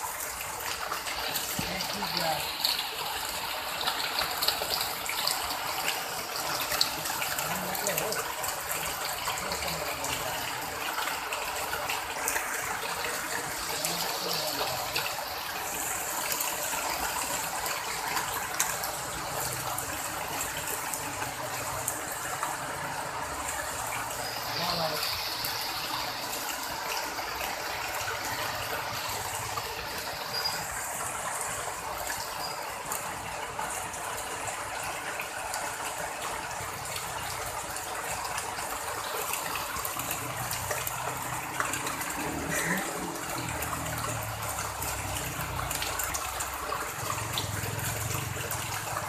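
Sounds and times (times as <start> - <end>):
heavy rain pouring: 0.0 - 49.0
raindrops striking metal roofing: 0.0 - 49.0.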